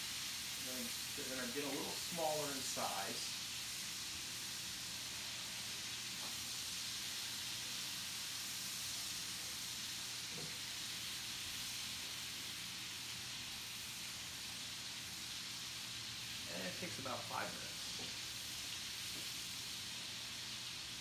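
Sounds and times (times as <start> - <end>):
mushrooms sizzling in a skillet: 0.0 - 21.0.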